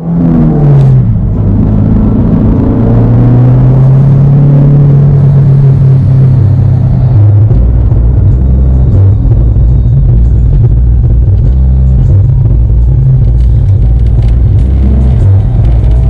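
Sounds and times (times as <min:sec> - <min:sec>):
car engine running from inside cabin: 0:00.0 - 0:16.0.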